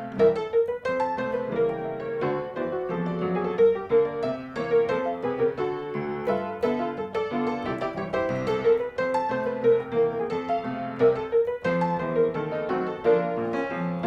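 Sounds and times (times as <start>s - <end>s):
piano melody with chords: 0.0s - 14.0s.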